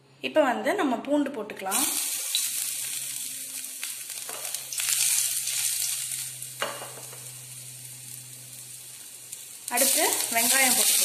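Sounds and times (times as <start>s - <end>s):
garlic sizzling in hot oil: 1.7s - 11.0s.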